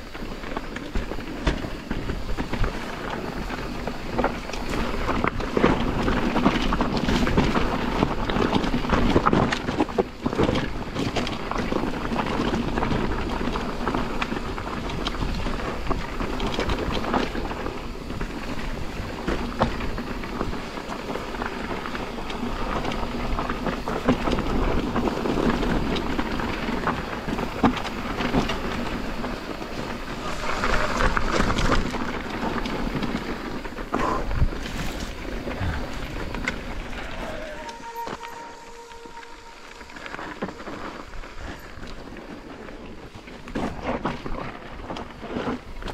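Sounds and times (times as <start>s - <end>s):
bike knocking and rattling: 0.0s - 37.2s
bike tyres rolling on dirt: 0.0s - 45.9s
wind over microphone: 0.0s - 45.9s.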